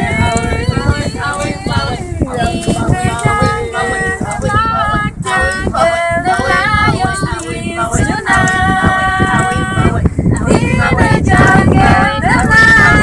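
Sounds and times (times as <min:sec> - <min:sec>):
wind rumbling on microphone: 0:00.0 - 0:13.0
women singing unaccompanied: 0:00.0 - 0:13.0.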